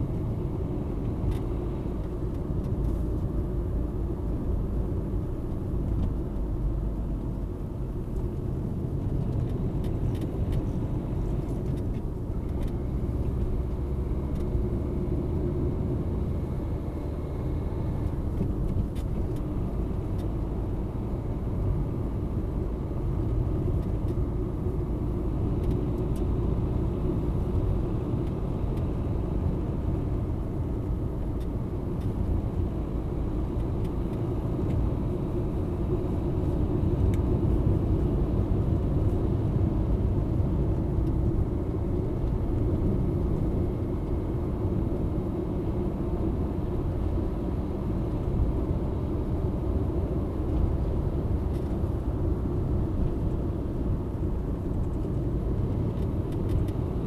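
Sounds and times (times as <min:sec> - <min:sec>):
car tyres and engine rumble: 0:00.0 - 0:57.0.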